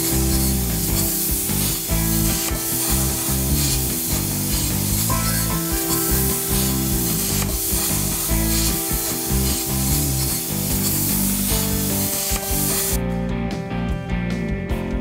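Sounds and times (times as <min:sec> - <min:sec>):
plasma cutter hissing: 0:00.0 - 0:13.0
background music with guitar: 0:00.0 - 0:15.0.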